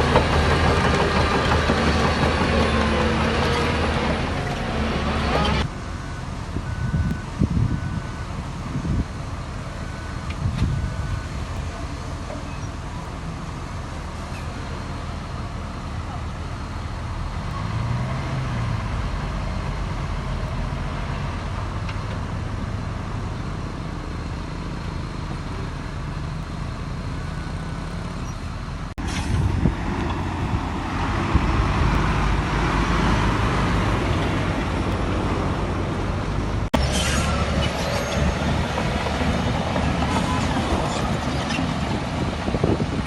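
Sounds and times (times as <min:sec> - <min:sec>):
heavy diesel engines running: 0:00.0 - 0:43.0.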